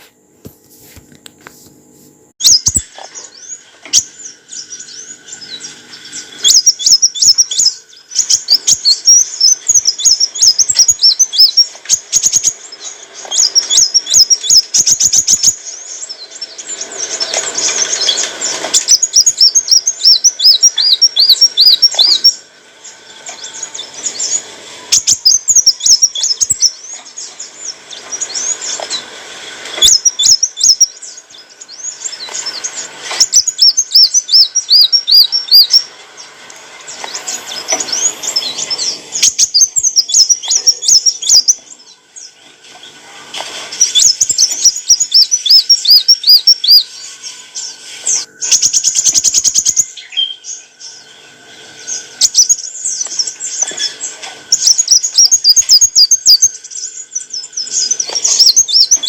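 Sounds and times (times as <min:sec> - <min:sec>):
bird twittering song: 0:02.4 - 0:59.0.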